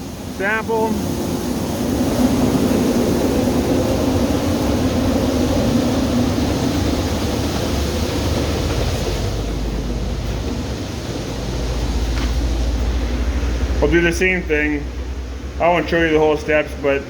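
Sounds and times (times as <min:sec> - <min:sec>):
dryer fan droning: 0:00.0 - 0:17.0
low rumble: 0:01.5 - 0:16.1.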